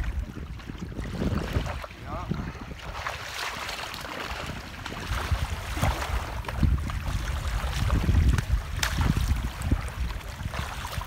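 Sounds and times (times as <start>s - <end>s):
fish splashing in shallow water: 0.0s - 11.0s
wind buffeting microphone: 0.0s - 11.0s.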